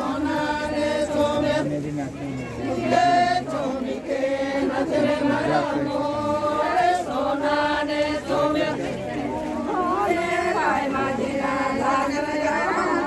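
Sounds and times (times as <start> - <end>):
women singing together: 0.0 - 1.9, 2.5 - 13.0.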